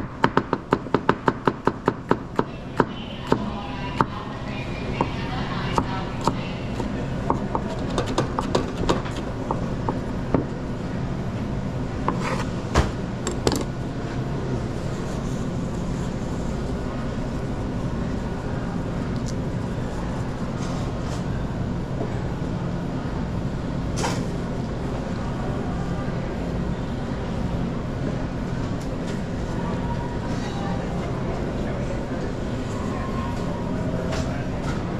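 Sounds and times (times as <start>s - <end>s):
low hum of kitchen machinery: 0.0s - 34.9s.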